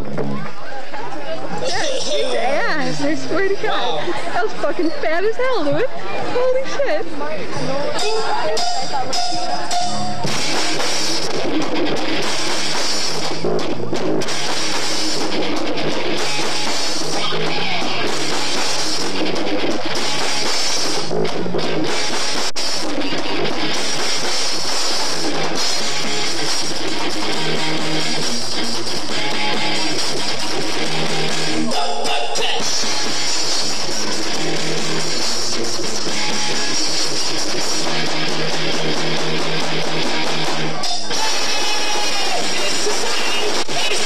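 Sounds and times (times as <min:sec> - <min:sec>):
live rock band playing: 0:07.9 - 0:44.0.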